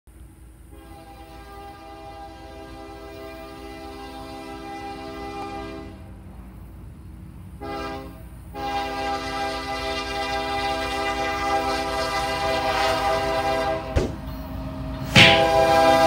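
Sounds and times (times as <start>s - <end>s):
low rumble of train: 0.1s - 16.0s
locomotive air horn: 0.7s - 6.1s, 7.6s - 14.2s, 15.0s - 16.0s.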